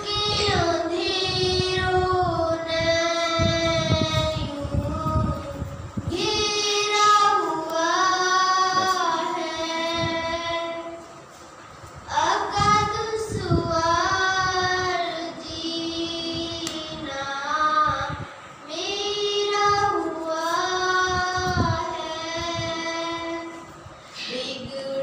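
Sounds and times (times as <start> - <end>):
girl singing a devotional hymn: 0.0 - 25.0.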